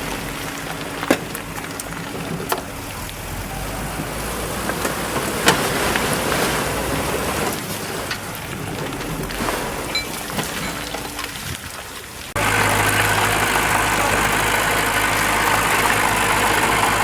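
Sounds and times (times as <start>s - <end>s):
diesel engine humming: 0.0s - 17.0s
rock and soil rushing: 0.0s - 17.0s.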